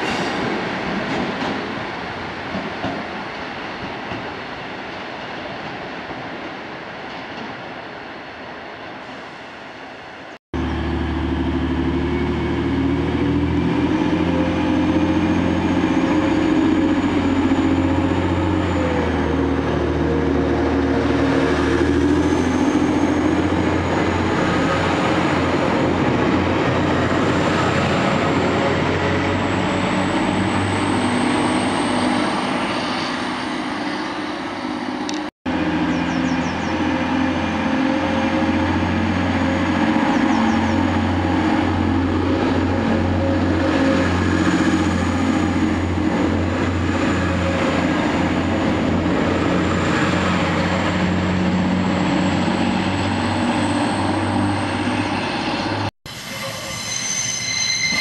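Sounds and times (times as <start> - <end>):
diesel train engine drone: 9.0 - 58.0.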